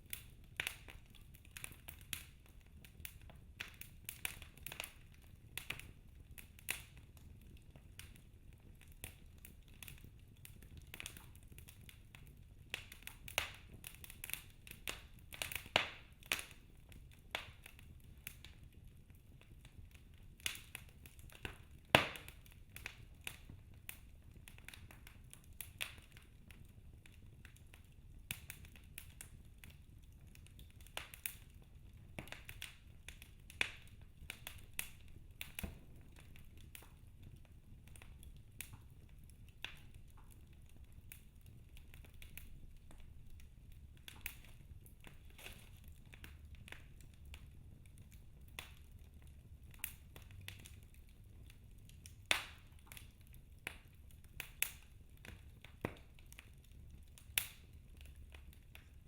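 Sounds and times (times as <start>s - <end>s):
sharp pops of fire: 0.0s - 18.8s, 19.4s - 59.0s
wood fire crackling: 0.0s - 59.0s.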